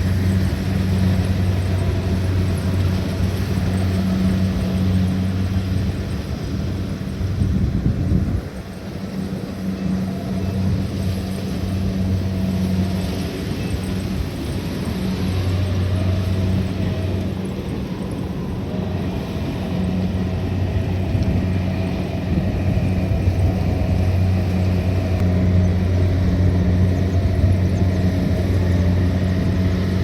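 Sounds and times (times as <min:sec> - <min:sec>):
combine harvester engine humming: 0:00.0 - 0:30.0.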